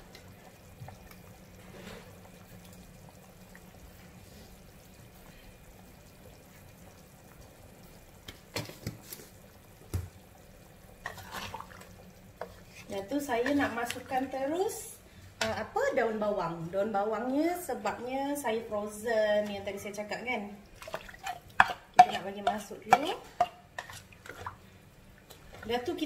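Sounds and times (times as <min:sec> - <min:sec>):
broth simmering in a wok: 0:00.0 - 0:26.0.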